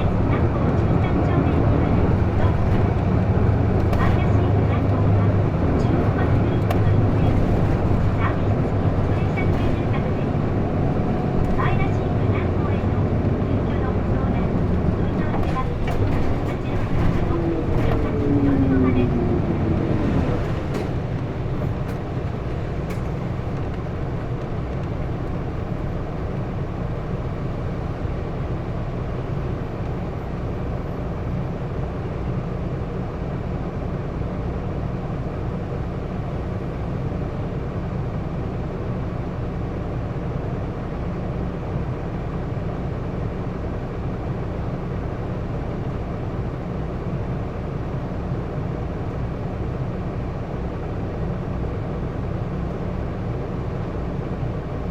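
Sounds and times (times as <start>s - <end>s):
bus engine and road noise: 0.0s - 54.9s.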